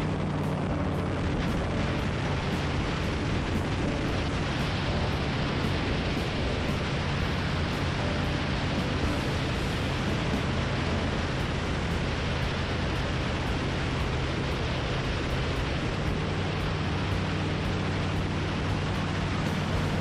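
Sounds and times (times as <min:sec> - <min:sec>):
aircraft engine and propeller drone: 0:00.0 - 0:20.0
wind rushing over microphone: 0:00.0 - 0:20.0.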